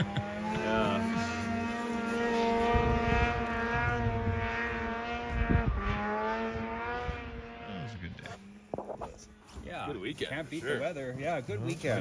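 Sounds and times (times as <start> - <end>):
snowmobile engine at high revs: 0.0 - 12.0.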